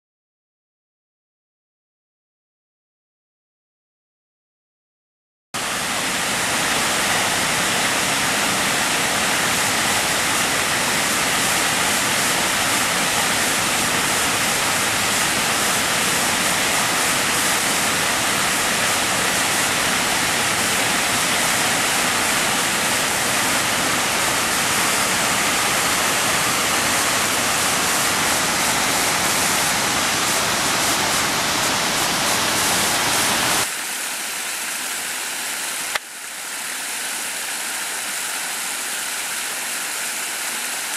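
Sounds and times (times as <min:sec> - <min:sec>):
waterfall rushing: 0:05.6 - 0:40.9.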